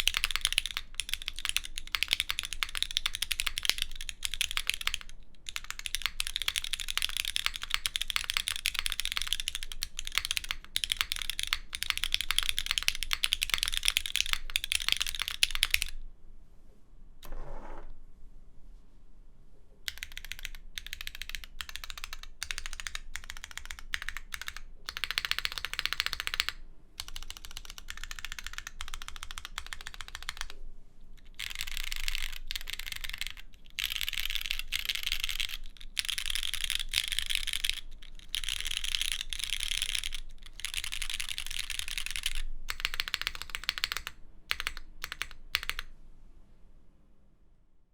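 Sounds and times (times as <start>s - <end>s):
typing on mechanical keyboard: 0.0s - 16.0s, 19.9s - 30.6s, 31.2s - 45.9s.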